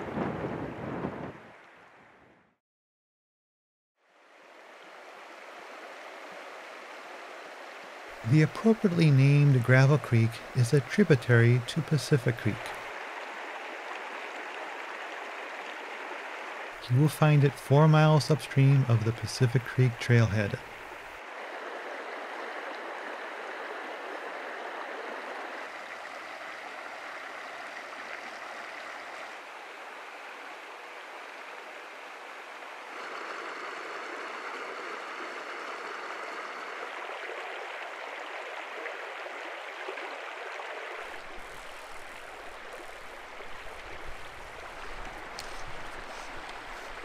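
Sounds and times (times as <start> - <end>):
creek water rushing over gravel: 4.0 - 47.0.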